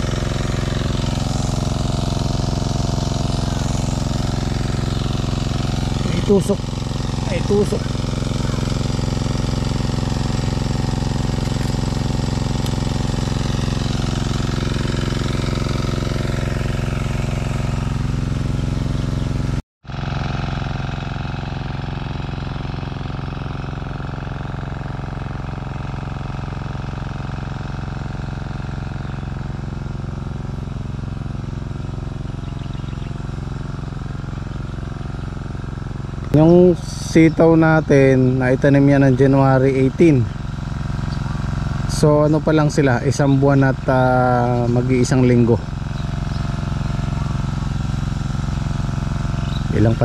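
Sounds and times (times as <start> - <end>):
small engine running: 0.0 - 50.0.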